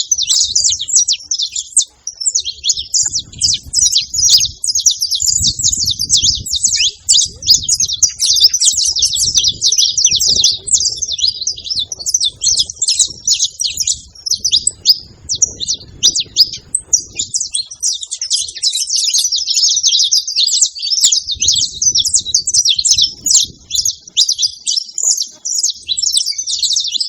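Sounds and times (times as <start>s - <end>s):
finch chirping: 0.0s - 27.0s.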